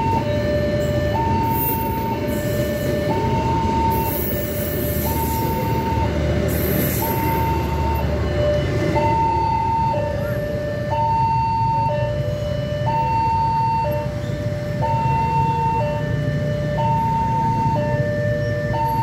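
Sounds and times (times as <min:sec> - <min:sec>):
two-tone crossing alarm: 0:00.0 - 0:19.0.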